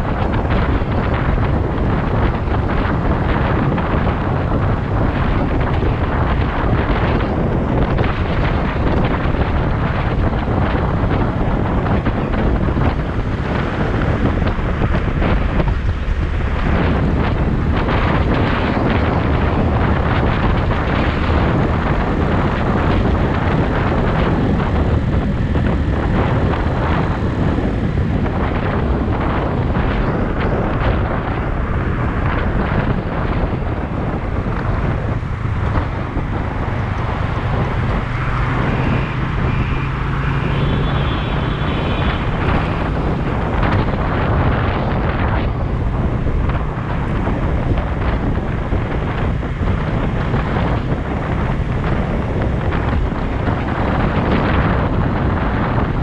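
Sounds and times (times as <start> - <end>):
vehicle running: 0.0 - 56.0
wind buffeting microphone: 0.0 - 56.0.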